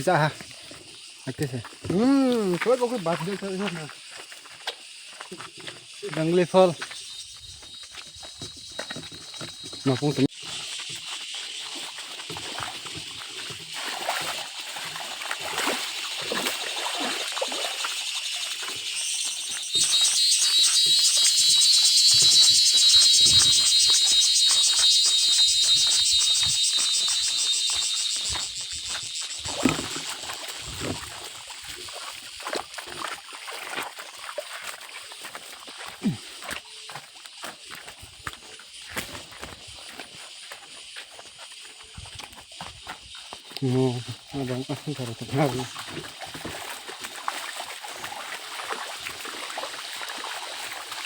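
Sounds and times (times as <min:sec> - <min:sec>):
cicadas buzzing: 0:00.0 - 0:51.0.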